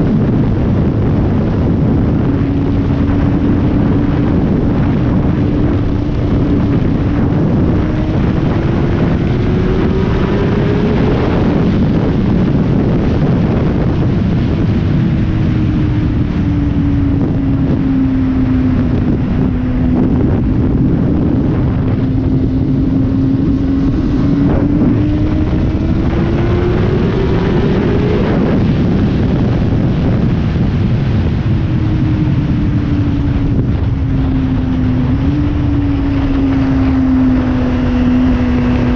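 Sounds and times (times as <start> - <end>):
motorcycle engine revving: 0.0 - 38.9
wind rush over microphone: 0.0 - 38.9.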